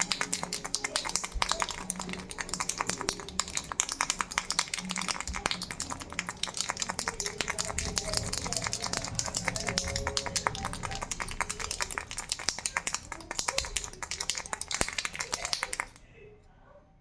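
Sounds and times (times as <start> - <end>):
baby rattle shaken: 0.0 - 16.0.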